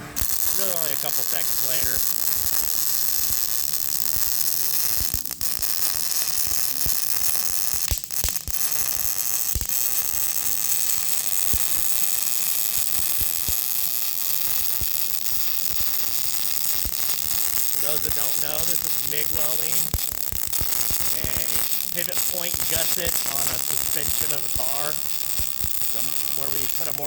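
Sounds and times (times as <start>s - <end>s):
welding arc sizzling and crackling: 0.0s - 27.0s.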